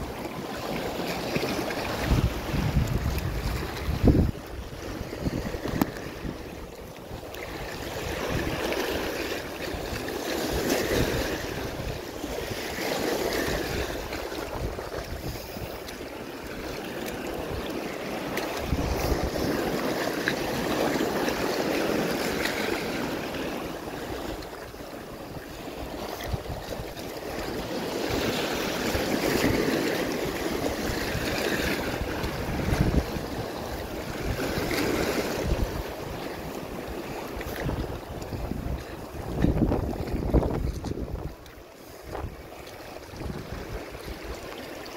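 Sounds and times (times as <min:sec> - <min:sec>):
small waves washing over rocks: 0:00.0 - 0:44.9
wind buffeting microphone: 0:01.4 - 0:23.3, 0:23.9 - 0:44.6.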